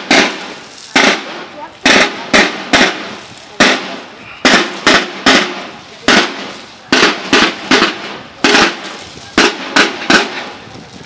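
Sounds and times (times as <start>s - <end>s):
marching drums beating: 0.0s - 11.0s.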